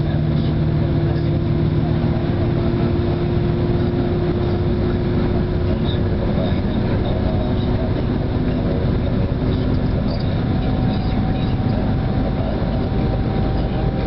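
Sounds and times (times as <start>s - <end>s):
bus engine and road drone: 0.0s - 14.0s
steady whine: 0.0s - 14.0s.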